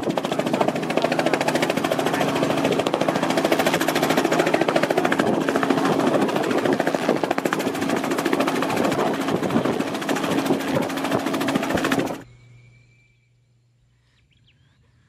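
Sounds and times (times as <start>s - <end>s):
helicopter rotor chop: 0.0s - 12.2s
helicopter engine tone: 0.0s - 12.3s.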